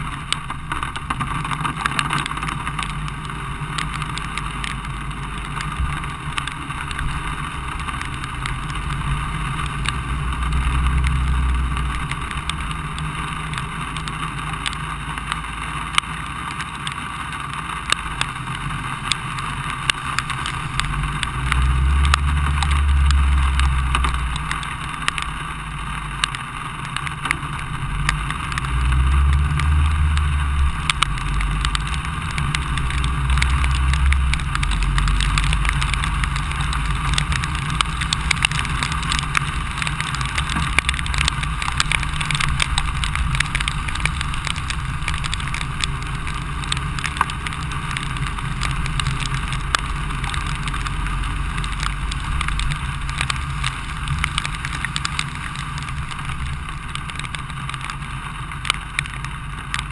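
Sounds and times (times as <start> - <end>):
low rumble: 0.0 - 59.9
rain and road noise: 0.0 - 59.9
raindrops ticking on camera: 0.0 - 59.9.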